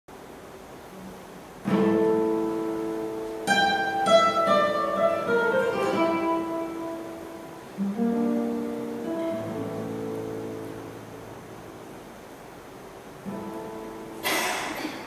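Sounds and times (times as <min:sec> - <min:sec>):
solo classical guitar: 0:00.8 - 0:15.0.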